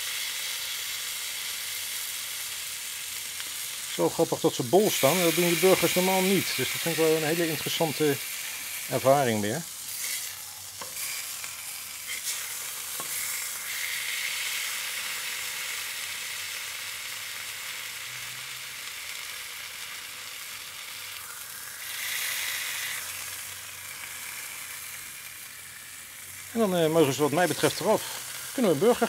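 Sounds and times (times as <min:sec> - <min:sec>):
burger patties sizzling on griddle: 0:00.0 - 0:29.0.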